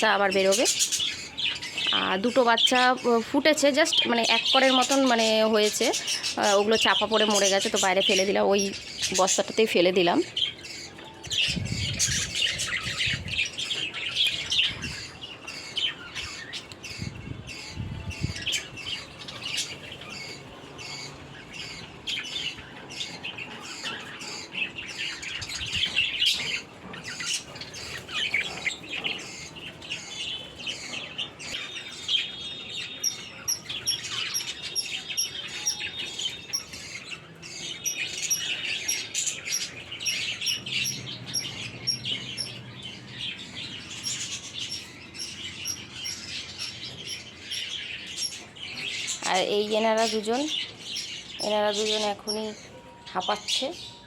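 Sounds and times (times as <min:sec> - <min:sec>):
caged birds chirping and chattering: 0:00.0 - 0:54.0.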